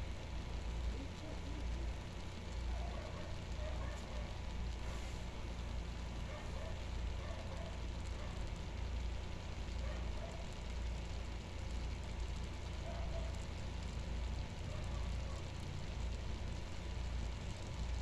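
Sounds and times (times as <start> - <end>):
stove burner rumbling: 0.0 - 18.0.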